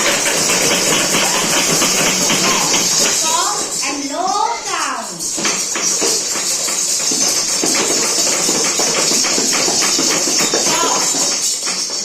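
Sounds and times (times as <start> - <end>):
tambourine tapping and jingling: 0.0 - 12.0.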